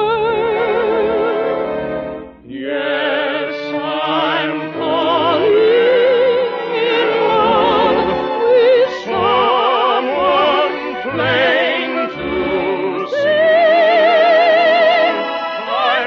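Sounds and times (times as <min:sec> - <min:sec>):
operatic singing on old radio: 0:02.4 - 0:16.0.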